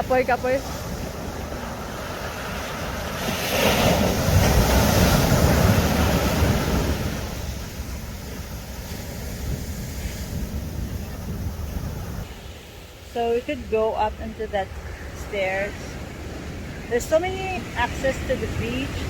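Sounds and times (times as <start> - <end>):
ocean waves breaking: 0.0 - 19.0
wind rumble on microphone: 0.0 - 19.0.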